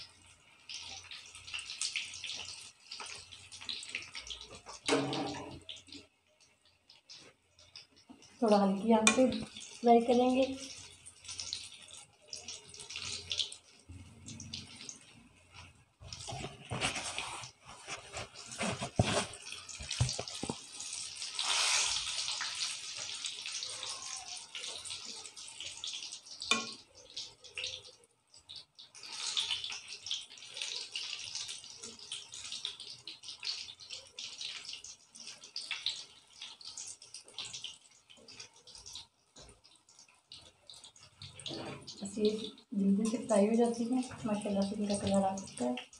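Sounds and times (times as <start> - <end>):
food deep-frying in oil: 0.0 - 45.9.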